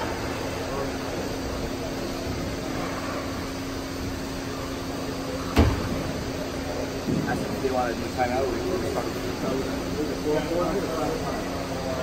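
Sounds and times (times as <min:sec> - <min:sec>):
hum of air handling machinery: 0:00.0 - 0:12.0.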